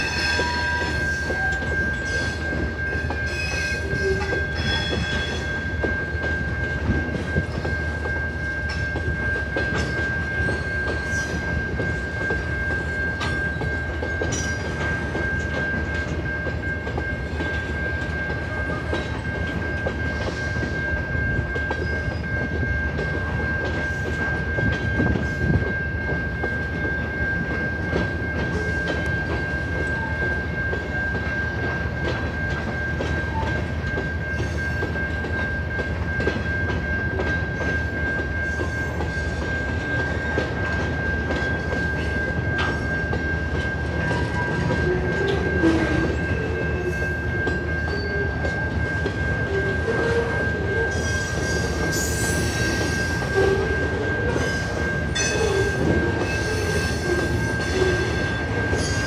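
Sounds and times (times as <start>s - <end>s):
train wheels clacking over rails: 0.0s - 59.0s.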